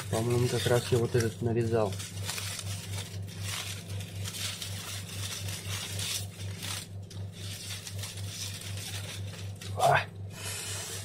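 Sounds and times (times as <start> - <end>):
aluminium foil crinkling: 0.0 - 10.0
steady low hum: 0.0 - 11.0.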